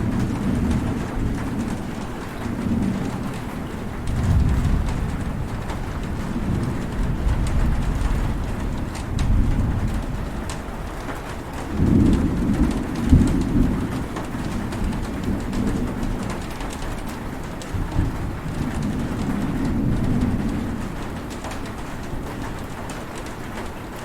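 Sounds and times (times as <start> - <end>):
heavy rain: 0.0 - 24.0
rolling thunder: 0.0 - 24.0.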